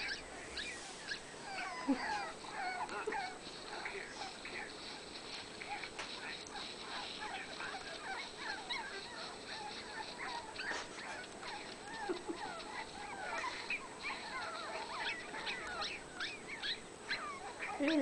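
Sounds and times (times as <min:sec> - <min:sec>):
puppies whining and yelping: 0:00.0 - 0:18.0.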